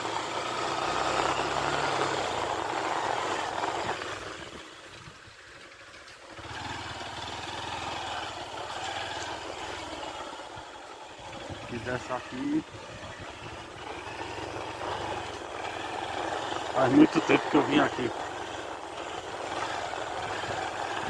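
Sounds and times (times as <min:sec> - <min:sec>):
small motorcycle engine running: 0:00.0 - 0:21.0
wind and road noise: 0:00.0 - 0:21.0.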